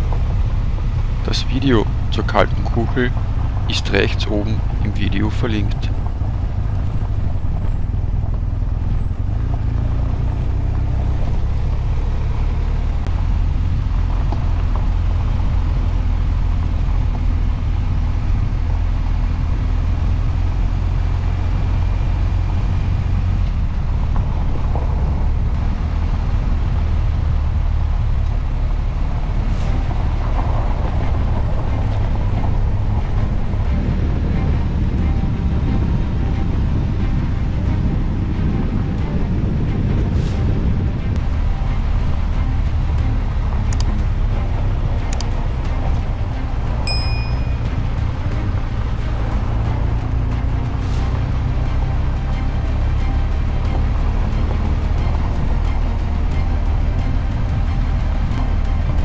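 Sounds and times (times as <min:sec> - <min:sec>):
motorcycle engine running: 0:00.0 - 0:59.0
tyres on gravel road: 0:00.0 - 0:59.0.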